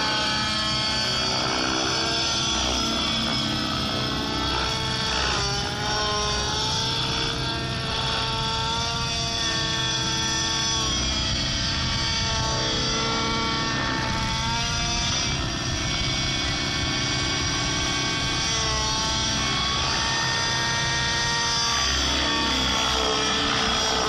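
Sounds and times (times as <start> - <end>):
model helicopter engine and rotor: 0.0 - 24.0.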